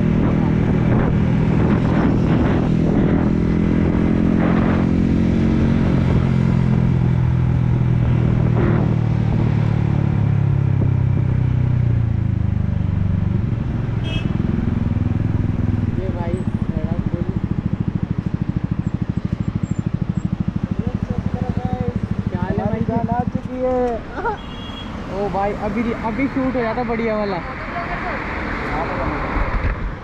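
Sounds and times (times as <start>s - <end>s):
motorcycle engine running: 0.0s - 27.5s.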